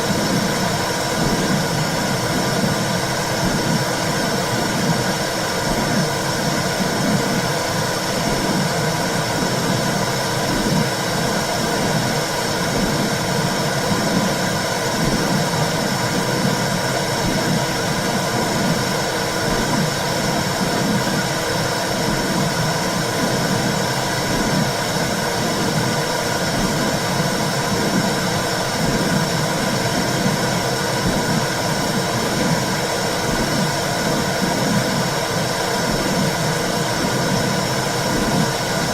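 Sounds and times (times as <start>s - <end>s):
electronic hiss and hum: 0.0s - 38.9s.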